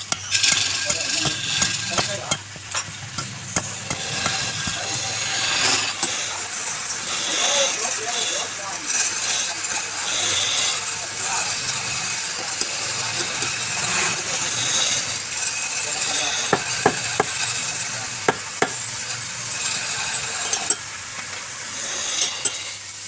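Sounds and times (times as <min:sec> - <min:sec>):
lathe tool scraping wood: 0:00.0 - 0:23.0.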